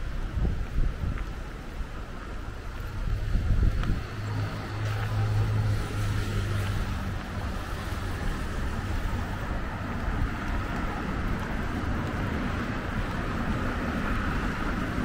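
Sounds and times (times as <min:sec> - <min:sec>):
wind rumble on microphone: 0:00.0 - 0:15.0
low engine hum: 0:00.2 - 0:15.0.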